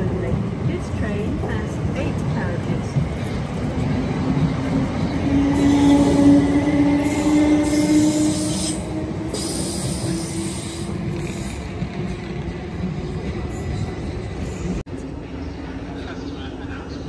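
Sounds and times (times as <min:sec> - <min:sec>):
train wheels on rails: 0:00.0 - 0:16.9.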